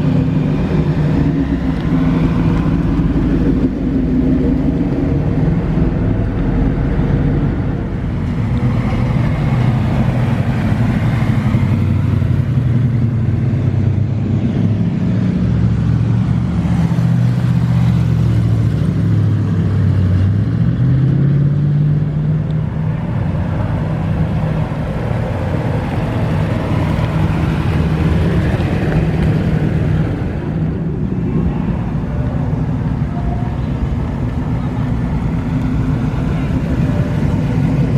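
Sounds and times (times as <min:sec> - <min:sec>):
car engine rumbling: 0:00.0 - 0:37.9.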